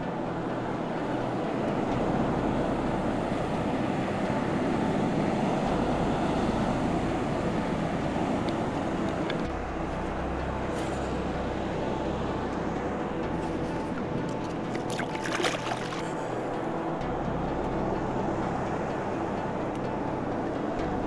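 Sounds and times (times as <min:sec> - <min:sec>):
sea wash: 0:00.0 - 0:21.0.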